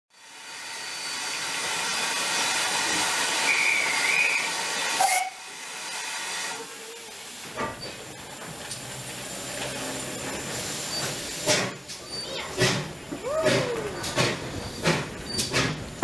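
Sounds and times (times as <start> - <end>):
steam locomotive hissing: 0.2 - 16.0.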